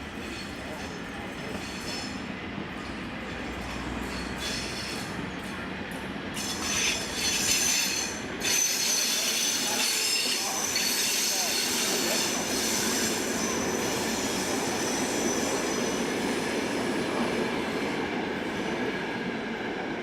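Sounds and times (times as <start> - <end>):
train wheels squealing on rails: 0.0 - 19.8.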